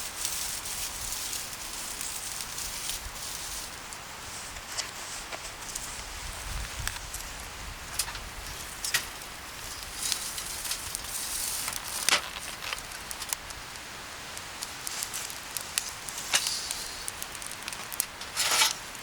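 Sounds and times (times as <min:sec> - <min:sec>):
campfire crackling: 0:00.0 - 0:19.0
fire hissing: 0:00.0 - 0:19.0
fire popping: 0:00.0 - 0:19.0.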